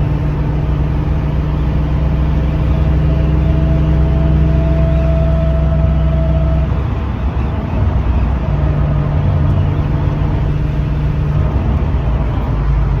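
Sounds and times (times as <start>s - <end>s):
car engine low rumble: 0.0s - 13.0s
steady whining tones: 0.0s - 13.0s.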